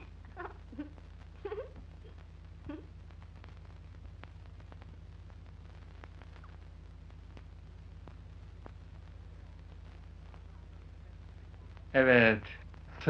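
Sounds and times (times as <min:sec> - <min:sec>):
faint clicks: 0:00.0 - 0:13.0
faint hiss: 0:00.0 - 0:13.0
low hum: 0:00.0 - 0:13.0.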